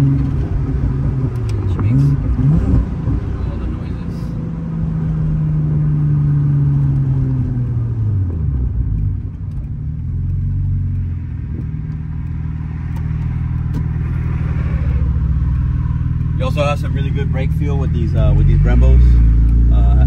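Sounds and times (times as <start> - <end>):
car engine running while driving: 0.0 - 20.0.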